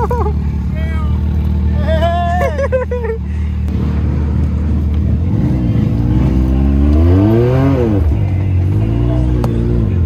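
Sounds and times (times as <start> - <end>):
vehicle engine idling and revving: 0.0 - 10.0.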